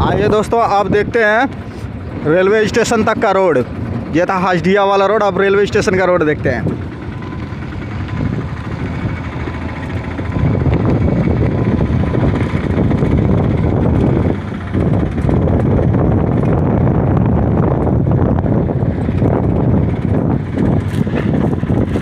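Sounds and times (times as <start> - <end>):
vehicle on broken road: 0.0 - 22.0
wind buffeting microphone: 0.0 - 22.0.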